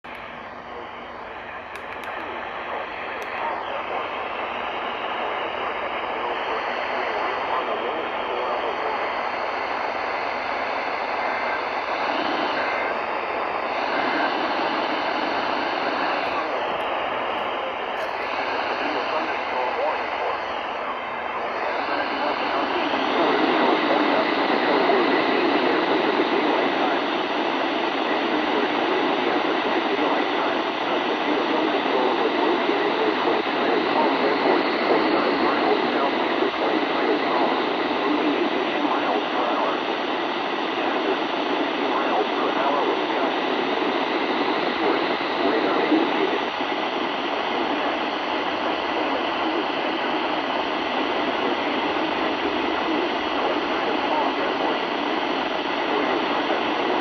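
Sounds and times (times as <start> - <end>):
radio static hiss: 0.1 - 57.0.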